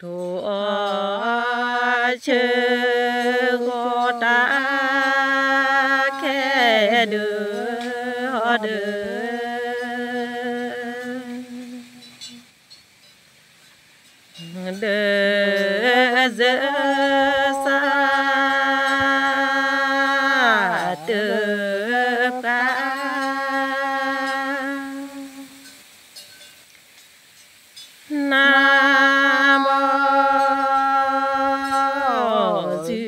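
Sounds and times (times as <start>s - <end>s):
person chanting: 0.0s - 12.4s, 14.4s - 25.8s, 28.1s - 33.0s.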